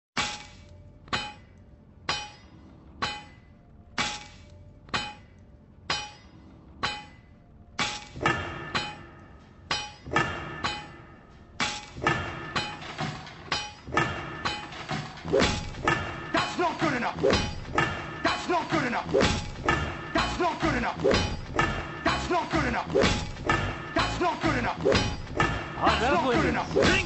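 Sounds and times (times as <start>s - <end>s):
metallic clanging beat: 0.2s - 27.0s.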